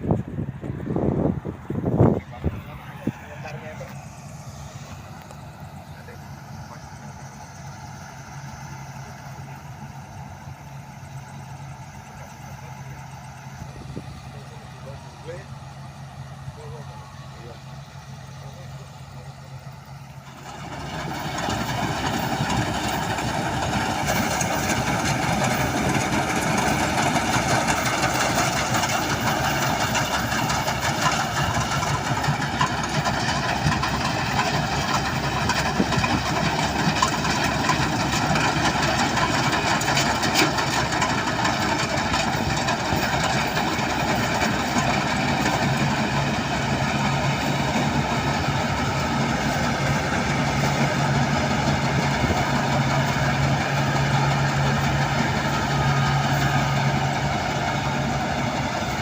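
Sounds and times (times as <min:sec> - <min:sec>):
harvester engine running: 0:00.0 - 0:59.0.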